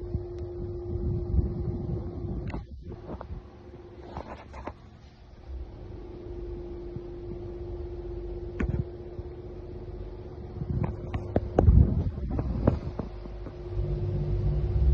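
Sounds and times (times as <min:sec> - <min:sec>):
fan motor humming: 0:00.0 - 0:14.9.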